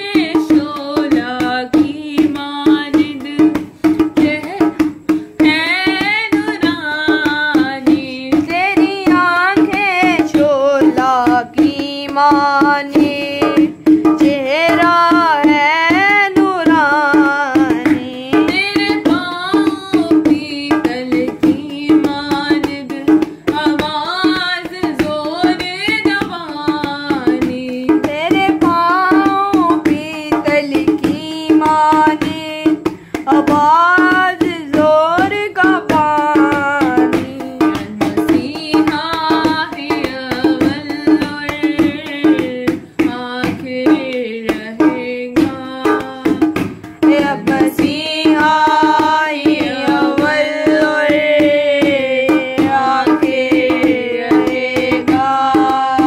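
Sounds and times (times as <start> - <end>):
hand drum percussion: 0.0 - 56.0.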